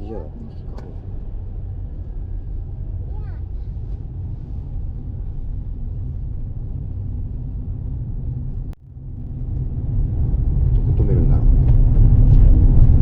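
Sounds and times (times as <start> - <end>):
car driving slowly: 0.0 - 13.0.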